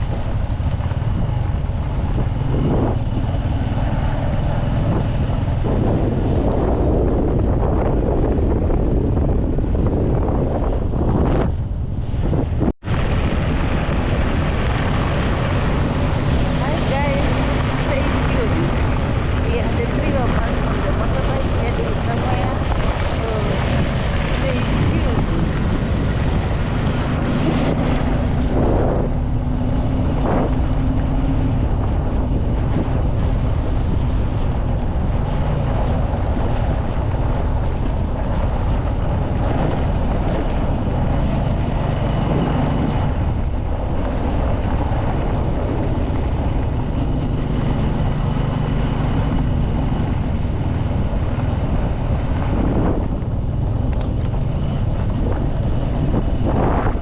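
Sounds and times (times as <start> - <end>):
vehicle engine and road noise: 0.0 - 57.0
wind buffeting microphone: 0.0 - 57.0.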